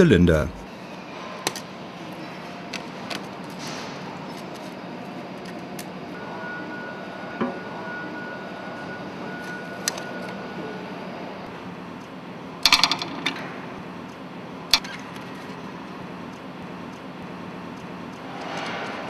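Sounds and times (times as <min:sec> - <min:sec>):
machinery background noise: 0:00.0 - 0:19.0.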